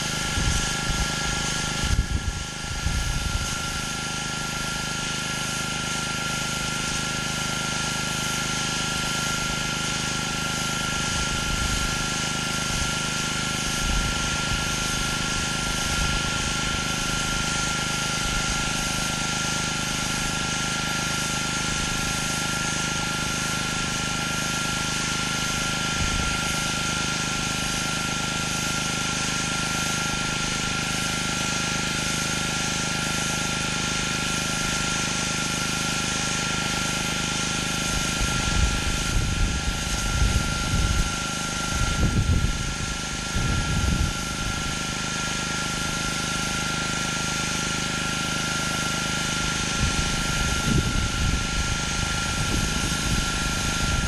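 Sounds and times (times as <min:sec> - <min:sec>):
pressure washer engine and pump drone: 0:00.0 - 0:54.0
water spraying on concrete: 0:00.0 - 0:54.0.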